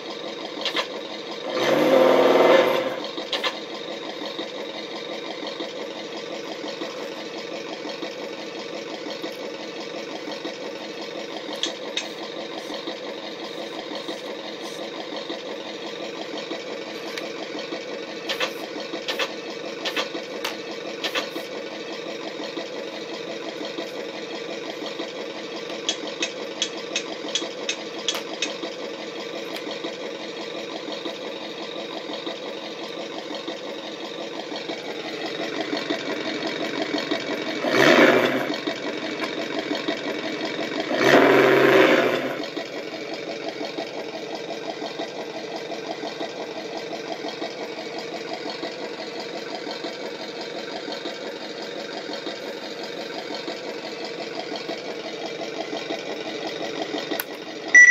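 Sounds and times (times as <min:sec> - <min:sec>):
electronic truck engine sound: 0:00.0 - 0:57.9.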